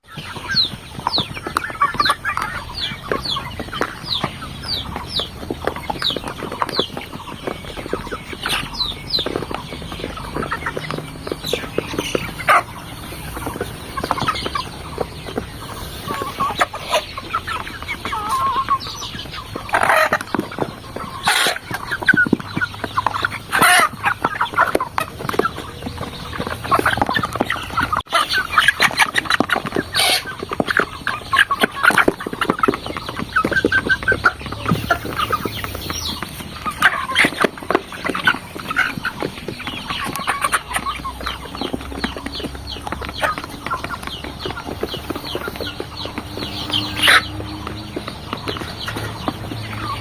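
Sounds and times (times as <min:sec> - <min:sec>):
chickens clucking: 0:00.0 - 0:50.0.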